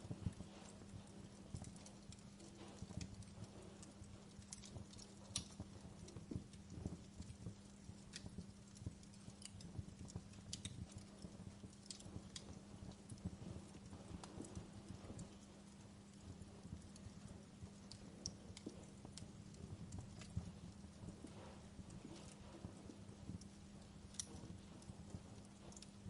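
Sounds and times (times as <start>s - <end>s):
faint steady hum: 0.0s - 26.0s
soft low rumble: 0.0s - 26.0s
wood fire crackling: 0.0s - 26.0s.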